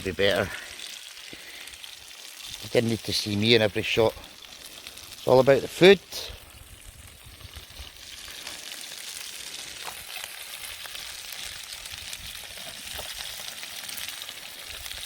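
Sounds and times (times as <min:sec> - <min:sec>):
faint pops and crackles: 0:00.0 - 0:15.0
meat sizzling in a pan: 0:00.0 - 0:15.0.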